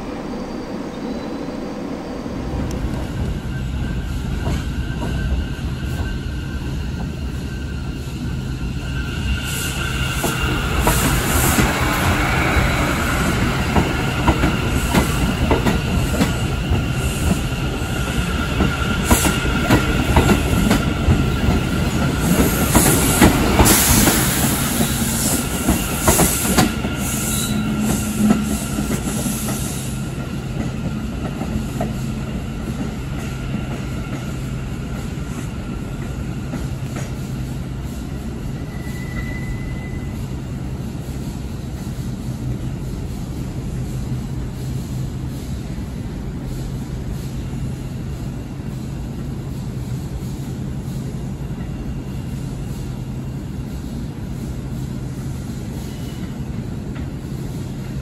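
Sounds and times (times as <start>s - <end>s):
subway train passing: 0.0s - 58.0s.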